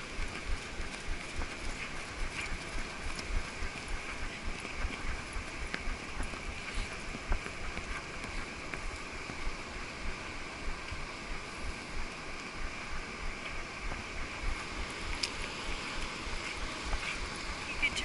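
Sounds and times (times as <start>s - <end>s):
horse hooves on sand: 0.0s - 18.0s.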